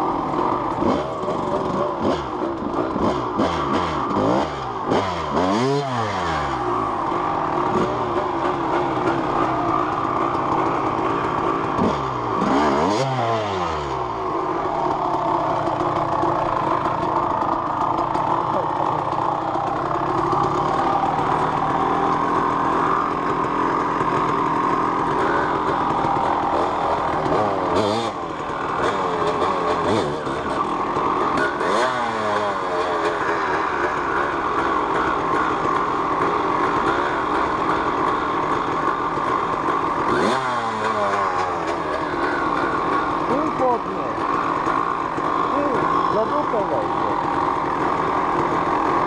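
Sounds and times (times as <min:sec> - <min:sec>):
dirt bike idling: 0:00.0 - 0:49.0
dirt bike revving: 0:00.0 - 0:49.0.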